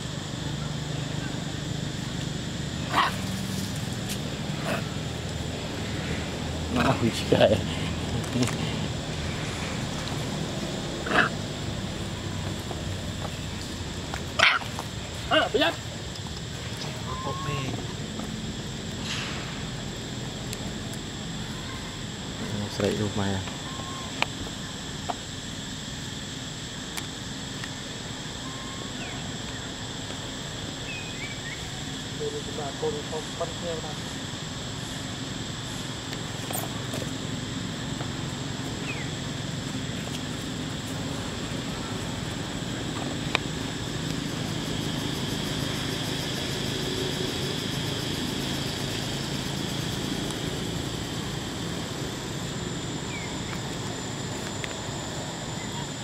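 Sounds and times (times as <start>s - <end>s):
constant low rumble: 0.0s - 56.0s
high-pitched whine: 0.0s - 56.0s
outdoor background hiss: 0.0s - 56.0s.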